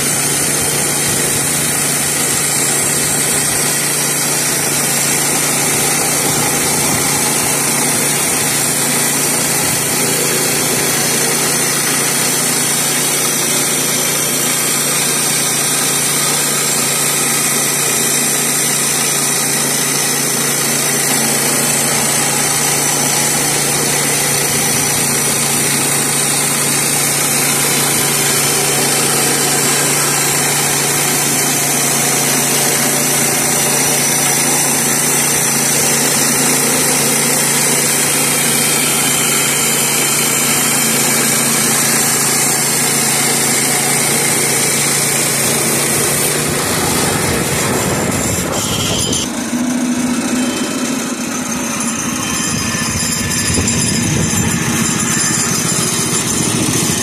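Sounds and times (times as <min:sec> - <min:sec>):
band blade cutting wood: 0:00.0 - 0:57.0
sawmill engine running under load: 0:00.0 - 0:57.0.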